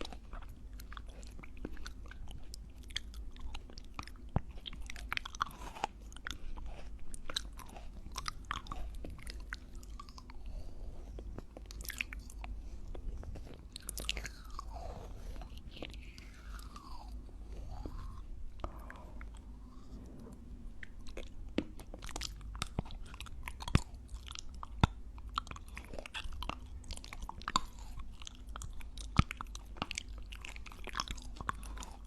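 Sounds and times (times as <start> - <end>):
wet chewing mouth sounds: 0.0 - 32.0.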